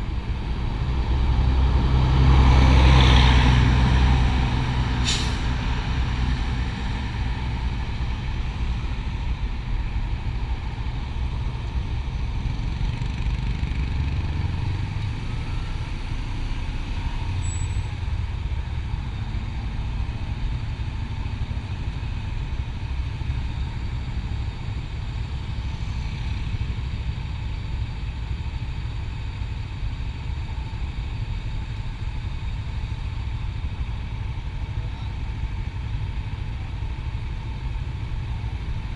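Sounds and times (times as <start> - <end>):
road and wind noise: 0.0 - 38.9
motorcycle engine rumble: 4.3 - 38.9.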